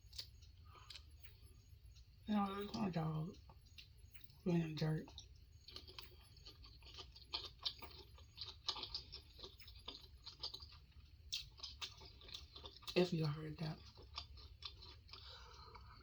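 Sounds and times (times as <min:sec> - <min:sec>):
person chewing food: 0:00.0 - 0:04.4, 0:05.0 - 0:16.0.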